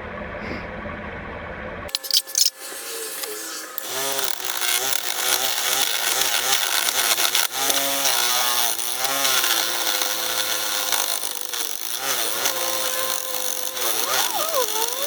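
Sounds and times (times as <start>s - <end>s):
chainsaw cutting wood: 1.9s - 15.0s.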